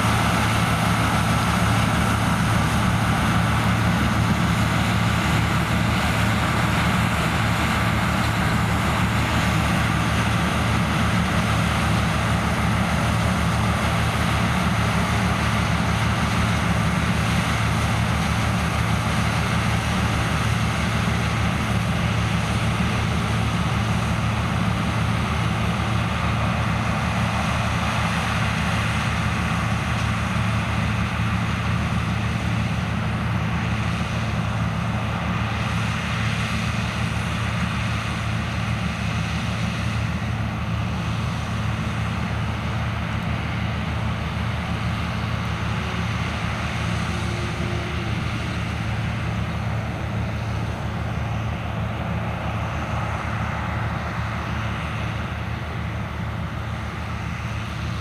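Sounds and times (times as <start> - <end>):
diesel engine drone: 0.0 - 58.0.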